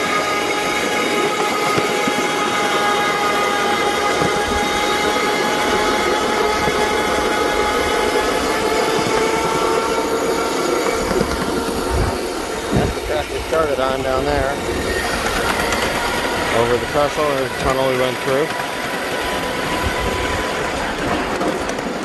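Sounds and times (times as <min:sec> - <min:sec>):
high-pitched whine: 0:00.0 - 0:21.3
train wheels rumbling on rails: 0:00.0 - 0:22.0.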